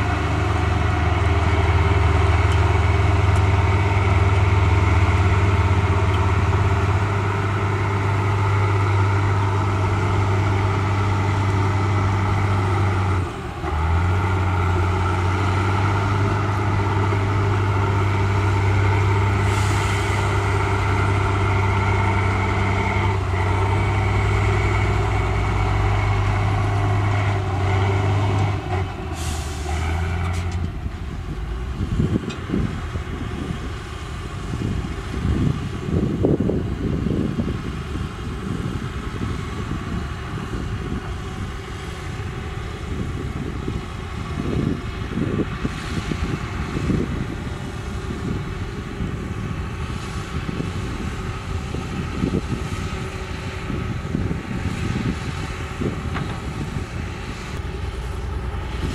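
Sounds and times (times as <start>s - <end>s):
bulldozer diesel engines running: 0.0s - 58.9s.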